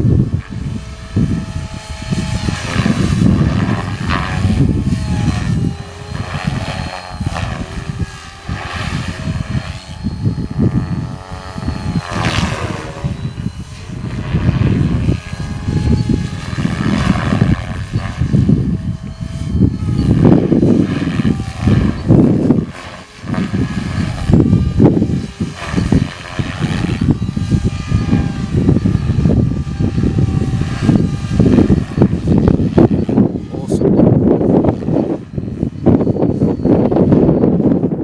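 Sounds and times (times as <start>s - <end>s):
rc helicopter rotors whining: 0.0s - 38.0s
wind buffeting microphone: 0.0s - 38.0s.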